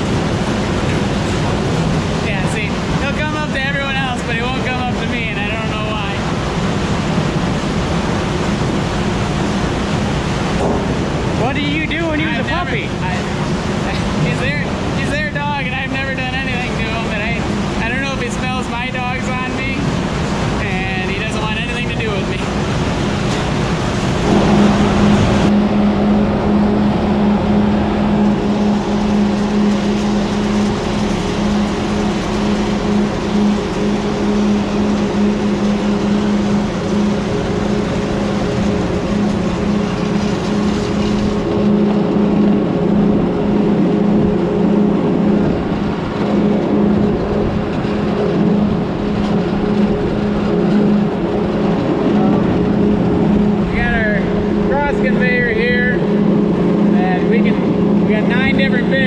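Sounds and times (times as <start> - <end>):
large engine humming: 0.0 - 59.0.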